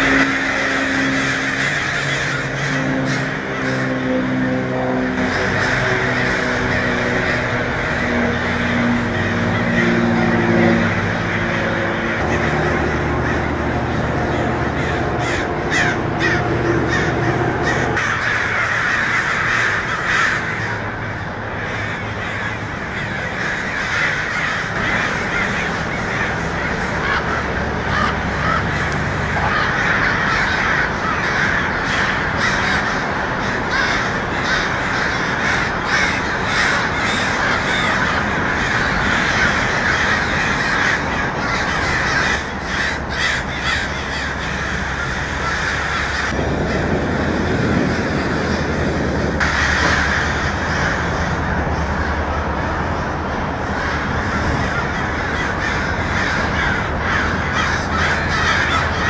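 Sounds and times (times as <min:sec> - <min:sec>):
crows cawing: 0:00.0 - 0:59.0.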